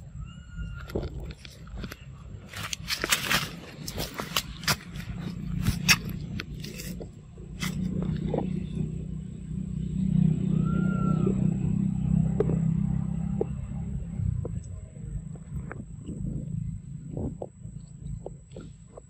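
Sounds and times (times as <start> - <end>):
engine rumble: 0.0 - 19.0.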